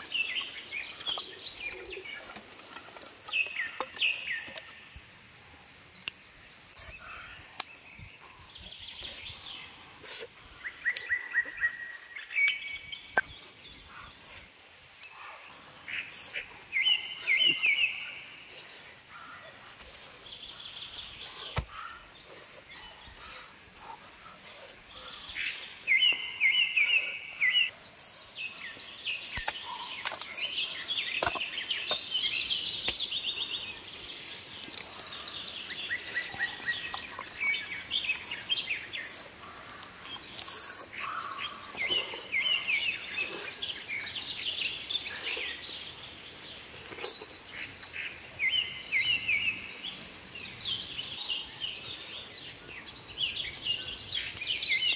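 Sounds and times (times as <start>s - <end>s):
background hiss: 0.0s - 54.9s
birds singing: 0.0s - 54.9s.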